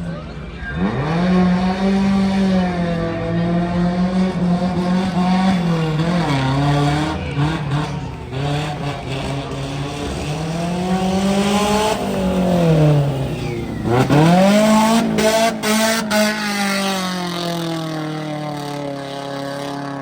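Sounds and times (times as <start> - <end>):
engine revving under load: 0.0 - 20.0.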